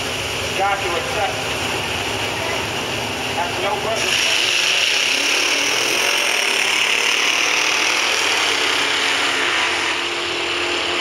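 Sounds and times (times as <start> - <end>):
drag car engines at full throttle: 0.0 - 11.0.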